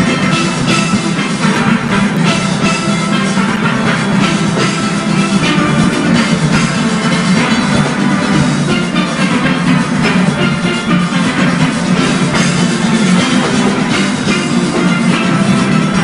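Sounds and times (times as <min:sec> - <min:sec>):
percussion beat: 0:00.0 - 0:16.0
steelpans playing: 0:00.0 - 0:16.0.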